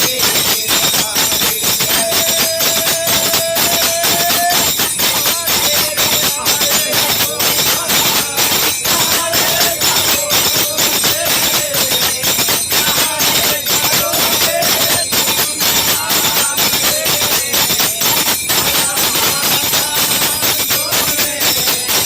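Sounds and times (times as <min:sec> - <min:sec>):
hand percussion beat: 0:00.0 - 0:22.0
wavering melody: 0:00.0 - 0:22.0.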